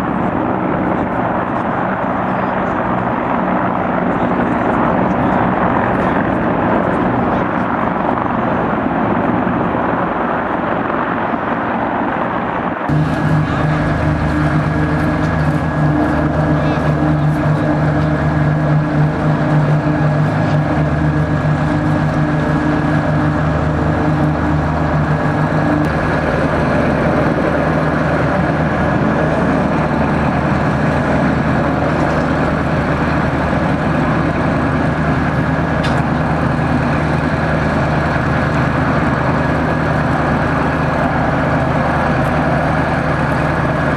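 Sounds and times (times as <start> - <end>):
helicopter rotor rushing: 0.0 - 43.9
helicopter turbine whine: 0.0 - 43.9
low engine drone: 0.0 - 43.9.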